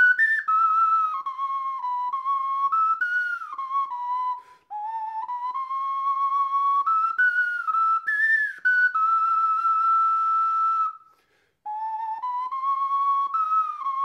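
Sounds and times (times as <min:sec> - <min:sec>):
ocarina ballad melody: 0:00.0 - 0:14.0.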